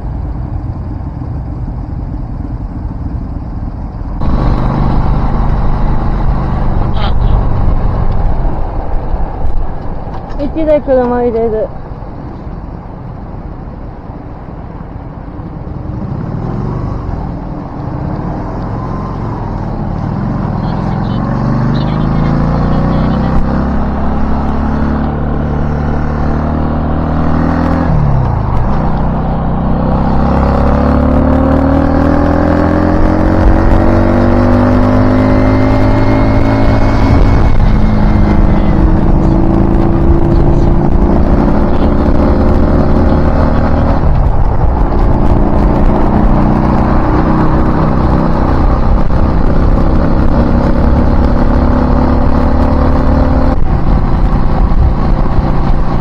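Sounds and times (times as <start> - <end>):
vehicle engine accelerating: 0.0 - 56.0.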